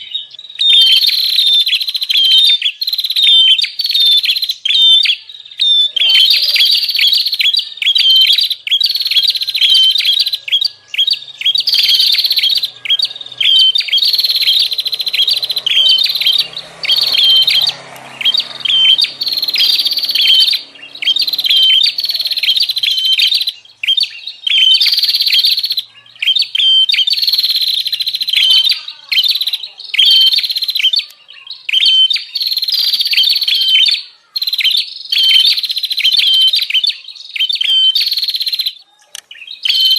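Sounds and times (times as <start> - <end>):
bird harsh chattering calls: 0.0 - 39.9.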